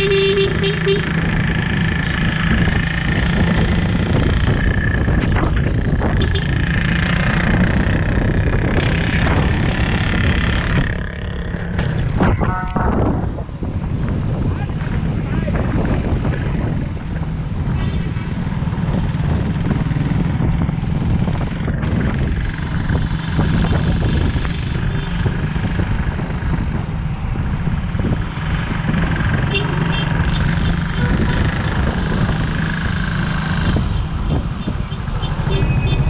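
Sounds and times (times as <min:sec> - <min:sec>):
cars and vans passing: 0:00.0 - 0:36.0
motorcycle engine running: 0:00.0 - 0:36.0.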